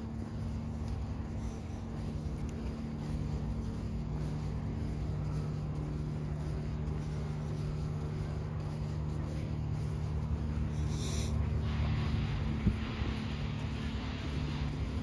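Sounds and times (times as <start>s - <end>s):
engine humming: 0.0s - 15.0s
low rumble: 0.0s - 15.0s.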